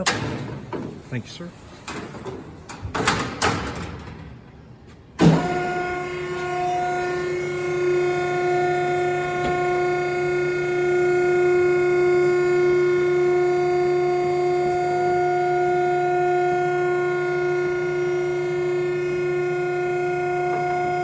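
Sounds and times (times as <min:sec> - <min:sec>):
motor and hydraulic pump whining: 0:00.0 - 0:21.0.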